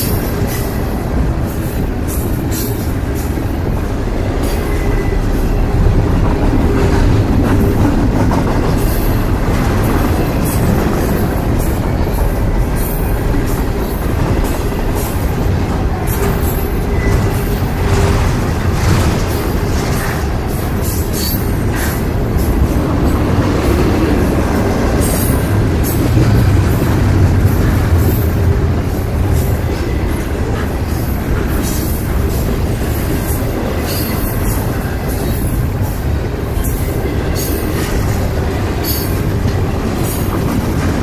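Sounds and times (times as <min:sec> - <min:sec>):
steel wheels rumbling on rail: 0:00.0 - 0:41.0
wind buffeting microphone: 0:00.0 - 0:41.0.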